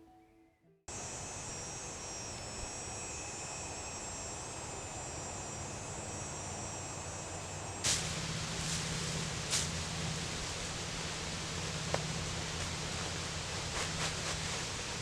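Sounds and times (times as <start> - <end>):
low drone and hiss: 0.9 - 15.0.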